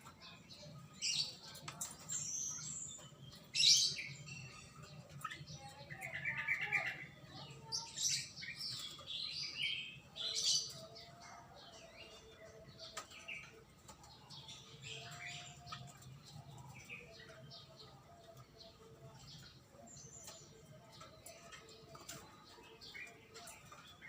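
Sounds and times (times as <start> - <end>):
bird chirping and calling: 0.0 - 24.0.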